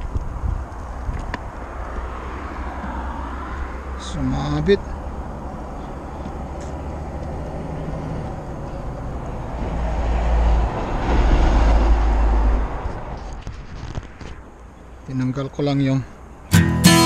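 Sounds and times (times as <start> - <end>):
low road traffic rumble: 0.0 - 17.0.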